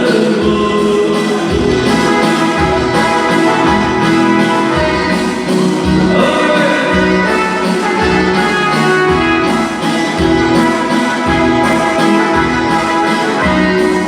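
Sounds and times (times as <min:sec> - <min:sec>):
loud instrumental music: 0:00.0 - 0:14.0.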